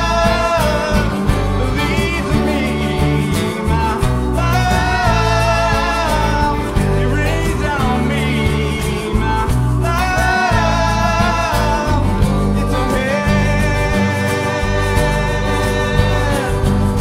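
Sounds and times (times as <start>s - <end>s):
electric bass: 0.0s - 17.0s
strummed acoustic guitars: 0.0s - 17.0s
voices singing together: 0.0s - 17.0s.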